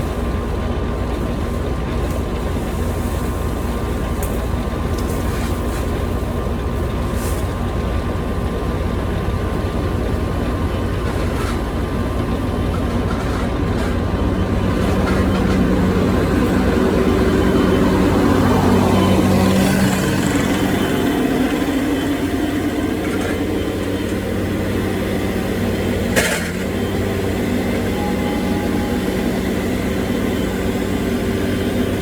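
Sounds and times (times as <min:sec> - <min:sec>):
heavy machine engine running: 0:00.0 - 0:32.0.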